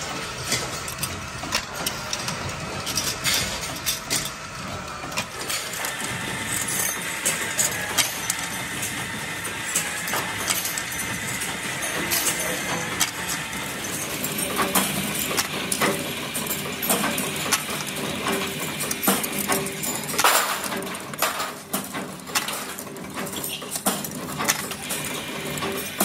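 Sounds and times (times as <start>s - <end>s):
metal plates clinking and clanking: 0.0s - 4.4s, 5.0s - 26.0s.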